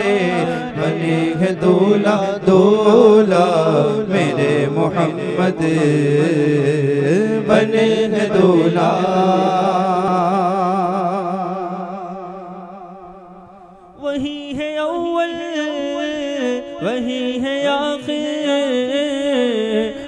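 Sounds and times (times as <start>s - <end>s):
person singing with echo: 0.0s - 20.0s.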